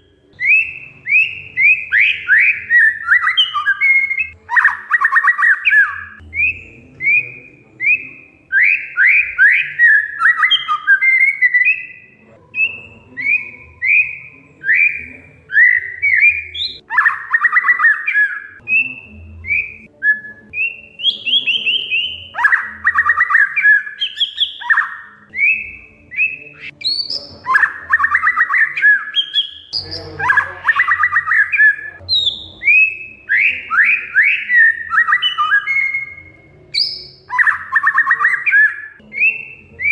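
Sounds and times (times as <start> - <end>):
harsh rapid bird chattering: 0.0 - 39.9
magpie-robin singing whistled notes: 0.0 - 39.9.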